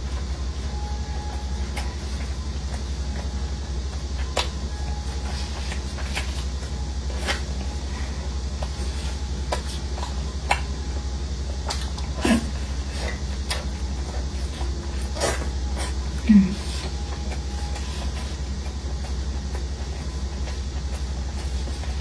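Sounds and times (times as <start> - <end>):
steady low hum: 0.0 - 22.0
chewing noises: 0.1 - 22.0.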